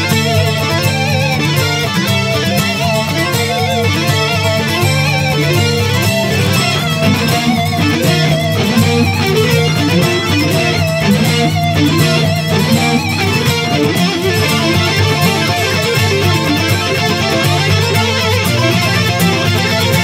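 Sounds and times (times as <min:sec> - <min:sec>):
acoustic guitar chords: 0:00.0 - 0:20.0
electric lead guitar: 0:00.0 - 0:20.0.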